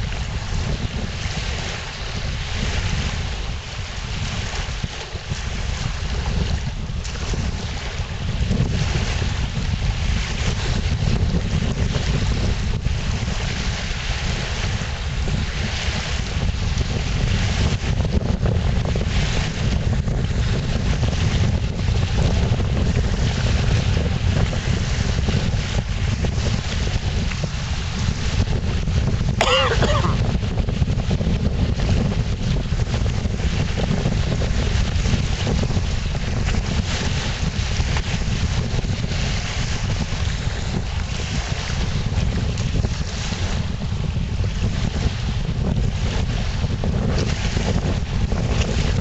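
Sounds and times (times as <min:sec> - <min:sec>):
choppy lake water hissing: 0:00.0 - 0:49.0
wind buffeting microphone: 0:00.0 - 0:49.0.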